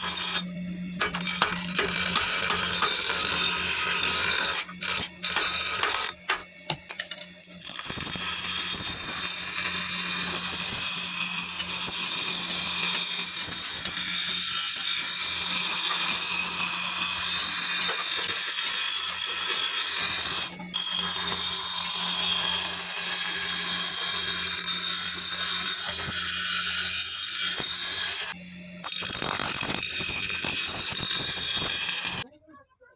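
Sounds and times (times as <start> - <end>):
grinder hissing on steel: 0.0 - 32.2
grinder motor hum: 0.0 - 32.3.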